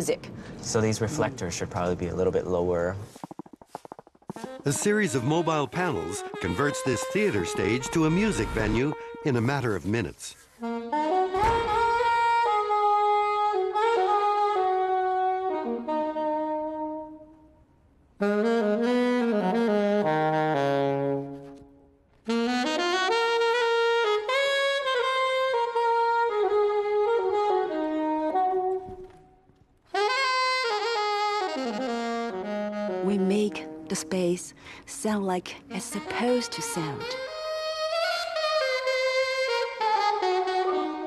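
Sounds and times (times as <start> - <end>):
solo saxophone melody: 4.3 - 9.8, 10.5 - 34.3, 35.6 - 41.0.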